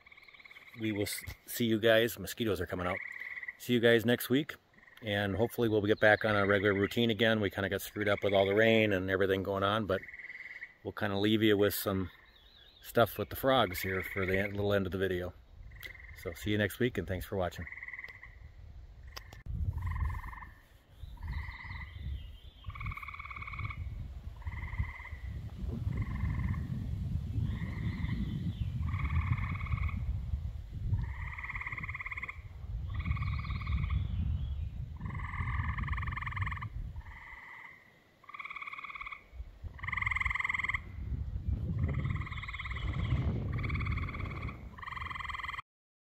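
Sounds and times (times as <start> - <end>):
frogs trilling in chorus: 0.0 - 2.0, 2.6 - 4.0, 4.6 - 11.0, 12.0 - 12.8, 13.5 - 14.7, 15.6 - 16.5, 17.6 - 26.7, 27.4 - 30.1, 31.0 - 34.2, 35.0 - 41.0, 41.8 - 45.6.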